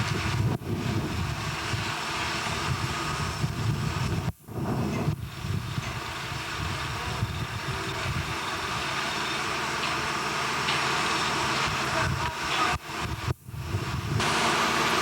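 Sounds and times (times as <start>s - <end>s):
low industrial rumble with hiss: 0.0s - 15.0s.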